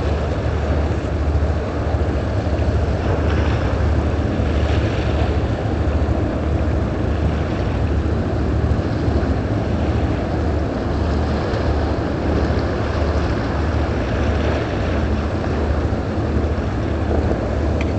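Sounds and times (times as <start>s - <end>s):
boat engine rumbling: 0.0s - 17.9s
water noise: 0.0s - 17.9s
wind: 0.0s - 17.9s.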